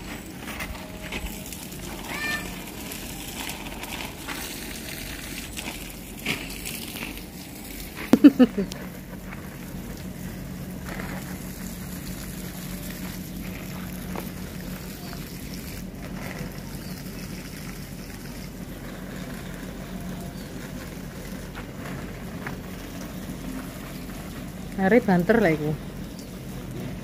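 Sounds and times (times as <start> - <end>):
garden hose spraying water: 0.0 - 27.0
low hum: 0.0 - 27.0.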